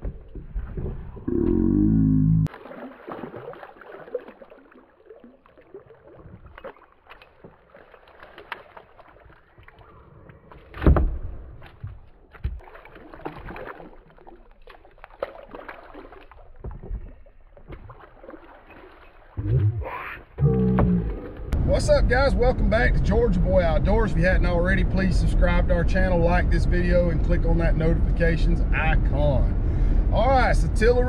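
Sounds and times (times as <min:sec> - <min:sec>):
water splashing around kayak: 0:00.0 - 0:26.4.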